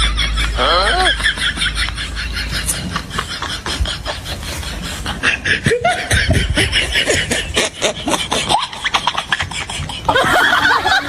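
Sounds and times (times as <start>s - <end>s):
laughter in bursts: 0.0s - 11.0s.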